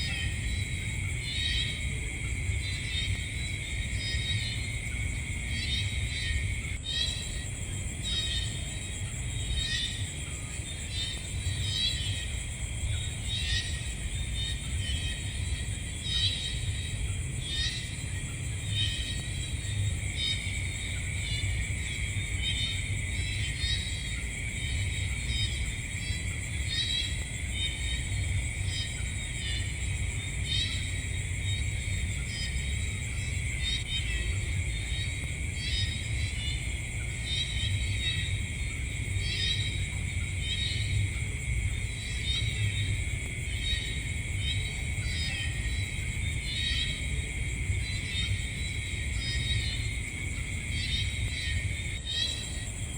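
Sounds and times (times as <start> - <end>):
insect chorus shrilling: 2.6 - 52.9.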